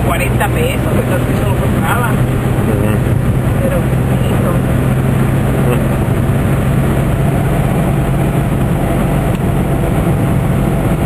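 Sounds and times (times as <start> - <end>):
car engine running: 0.0 - 11.0
tyres on a wet road: 0.0 - 11.0.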